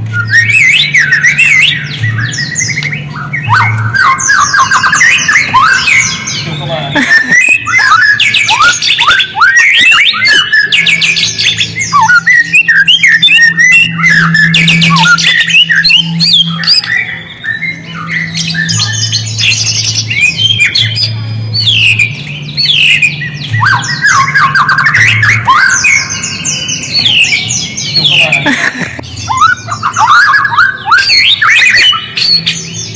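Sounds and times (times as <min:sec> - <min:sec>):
bird chattering and whistling: 0:00.0 - 0:32.9.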